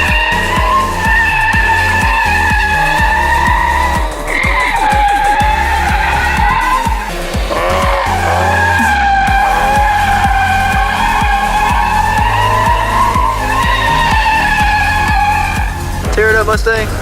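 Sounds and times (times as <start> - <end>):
car engine revving hard: 0.0 - 17.0
car tires squealing: 0.0 - 17.0
music with bass beat: 0.0 - 17.0.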